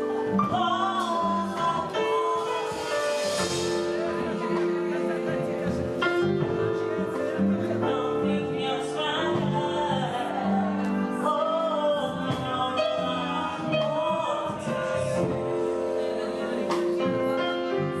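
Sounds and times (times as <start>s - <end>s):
person singing gospel song: 0.0s - 18.0s
sustained keyboard chords: 0.0s - 18.0s.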